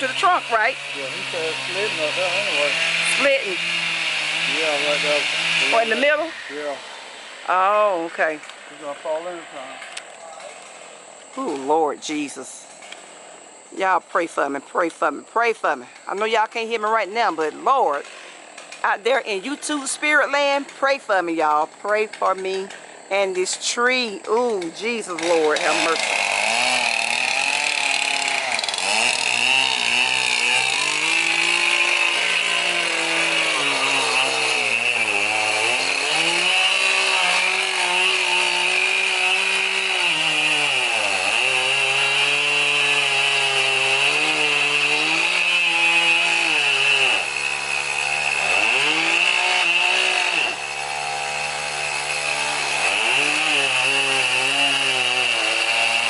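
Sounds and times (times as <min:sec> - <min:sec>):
chainsaw cutting tree trunk: 0:00.0 - 0:09.3, 0:15.8 - 0:56.0.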